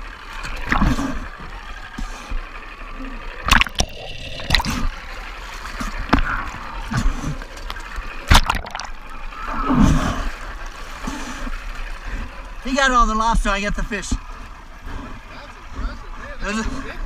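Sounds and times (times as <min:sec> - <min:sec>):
water splashing and gurgling: 0:00.0 - 0:17.0.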